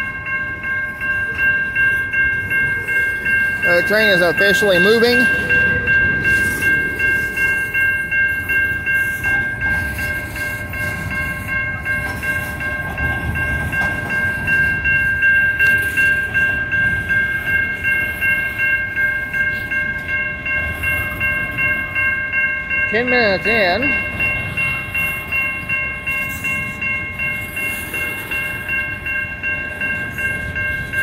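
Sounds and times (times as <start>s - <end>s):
electronic crossing bell ringing: 0.0s - 31.0s
rumble of rolling train cars: 0.0s - 31.0s.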